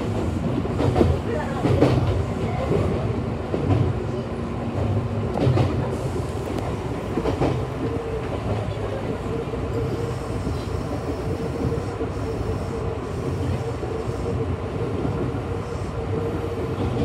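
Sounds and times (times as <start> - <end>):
steady train whine: 0.0 - 17.0
train wheels rumbling on rail: 0.0 - 17.0.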